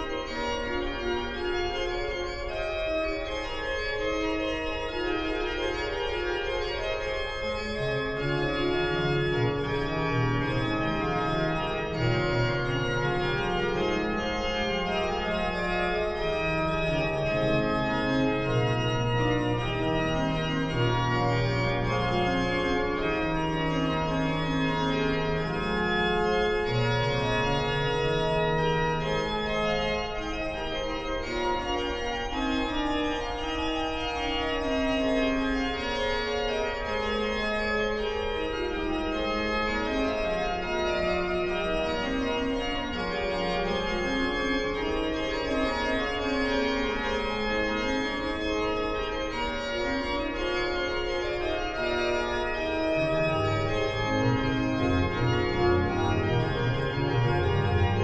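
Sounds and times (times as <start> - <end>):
pipe organ playing: 0.0 - 58.0.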